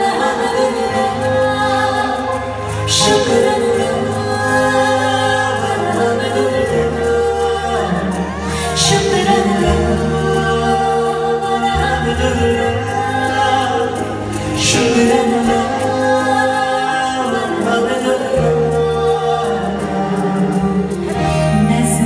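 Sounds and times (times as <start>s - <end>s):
band with tabla and guitars: 0.0s - 22.0s
woman singing: 0.0s - 22.0s.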